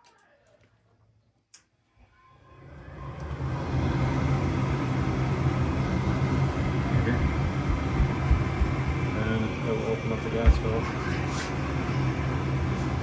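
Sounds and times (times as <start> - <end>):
furnace fan motor humming: 2.4 - 13.0.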